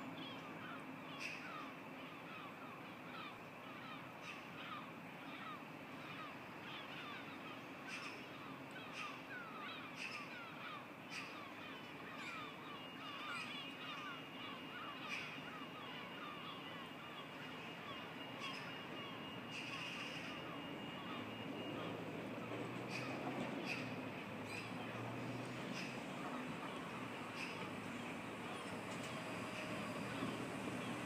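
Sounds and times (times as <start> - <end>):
faint high whine: 0.0 - 31.0
birds chirping: 0.1 - 31.0.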